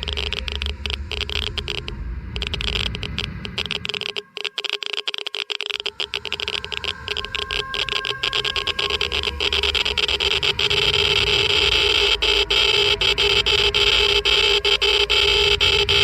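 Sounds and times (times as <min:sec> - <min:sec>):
low rumble: 0:00.0 - 0:04.2, 0:05.9 - 0:16.0
geiger counter clicking: 0:00.0 - 0:16.0
steady electronic hum: 0:00.0 - 0:16.0.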